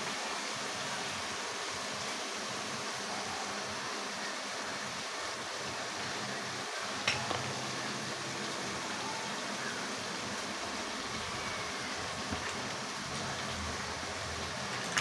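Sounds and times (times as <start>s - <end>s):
kitchen hiss: 0.0s - 15.0s.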